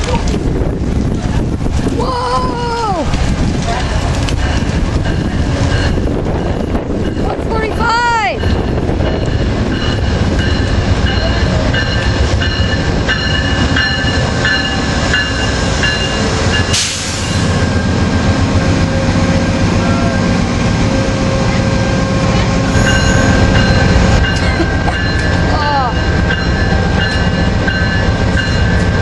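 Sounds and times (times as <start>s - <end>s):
train engine rumble: 0.0s - 29.0s.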